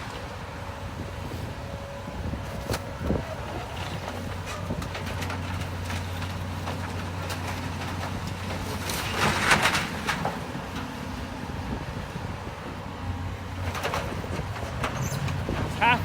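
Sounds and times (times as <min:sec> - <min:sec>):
demolition machine running: 0:00.0 - 0:16.0.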